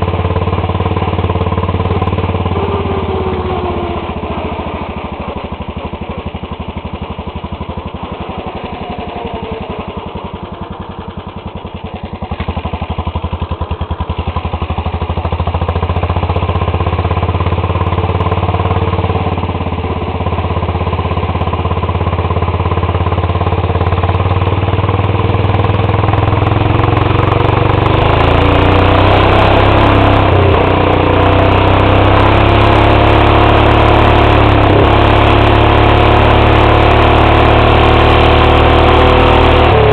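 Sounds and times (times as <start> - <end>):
lawn tractor engine running hard: 0.0 - 39.9.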